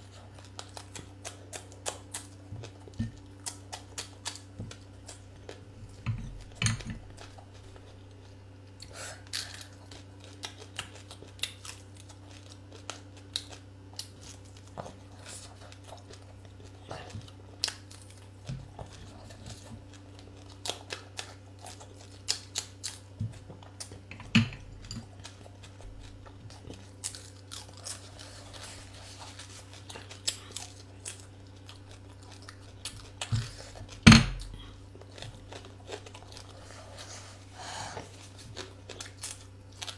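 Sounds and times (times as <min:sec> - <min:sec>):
person chewing and crunching: 0:00.0 - 0:39.9
steady low hum: 0:00.0 - 0:39.9.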